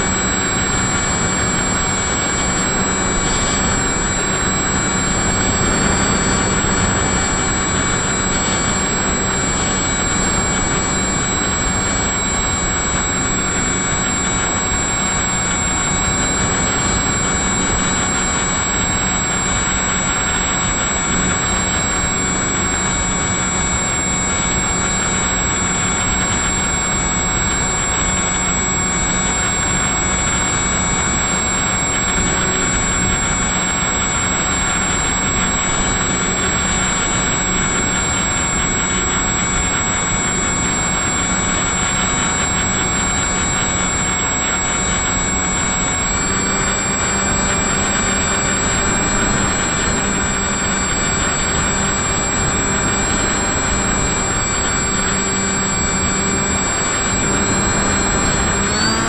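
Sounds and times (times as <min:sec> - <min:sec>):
model aircraft propeller whine: 0:00.0 - 0:59.0.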